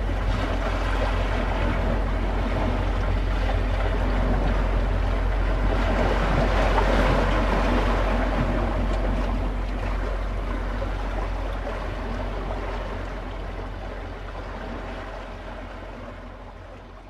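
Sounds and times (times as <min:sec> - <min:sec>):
low rumble: 0:00.0 - 0:17.0
rushing seaside ambience: 0:00.0 - 0:17.0.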